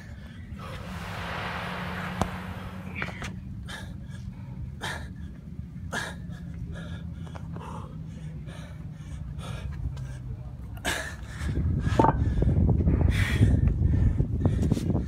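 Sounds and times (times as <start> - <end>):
man breathing hard: 2.9 - 15.0.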